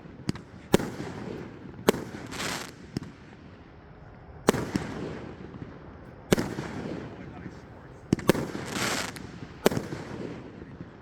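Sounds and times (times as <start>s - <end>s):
fireworks booming: 0.0s - 3.2s, 4.4s - 10.9s.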